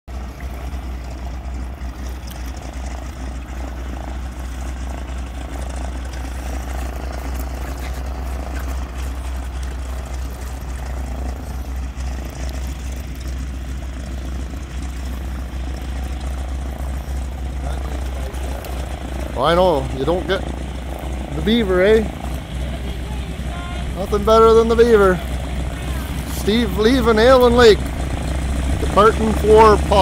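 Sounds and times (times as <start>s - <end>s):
distant propeller plane engine: 0.1s - 30.0s.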